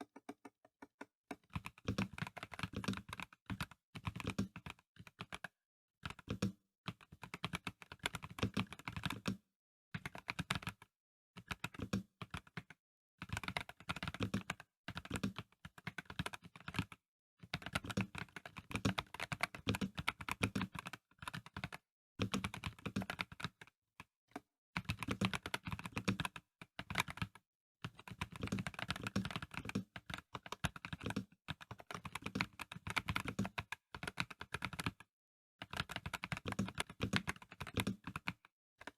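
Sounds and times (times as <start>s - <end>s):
mechanical keyboard typing: 0.0s - 9.4s, 11.4s - 23.6s, 24.8s - 35.0s, 35.6s - 38.9s.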